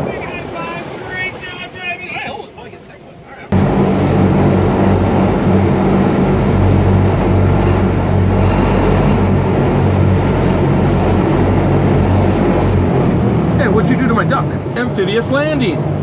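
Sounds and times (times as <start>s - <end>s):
boat engine low drone: 0.0s - 16.0s.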